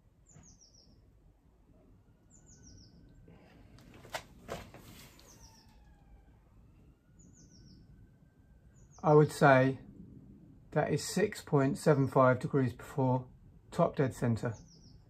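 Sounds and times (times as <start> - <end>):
faint birdsong: 0.0 - 3.9, 4.9 - 11.2, 12.0 - 15.0.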